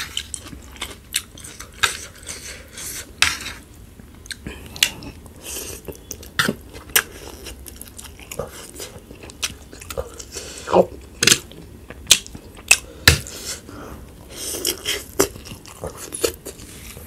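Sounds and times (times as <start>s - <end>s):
chewing: 0.0s - 2.7s, 4.2s - 13.6s, 14.4s - 17.0s.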